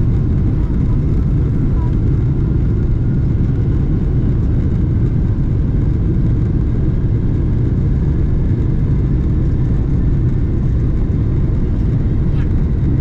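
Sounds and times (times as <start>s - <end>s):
jet cabin engine rumble: 0.0s - 13.0s.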